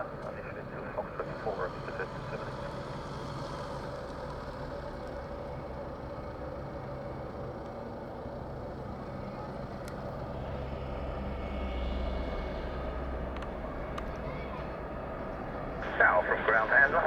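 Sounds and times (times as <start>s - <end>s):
mechanical engine hum: 0.0s - 17.0s.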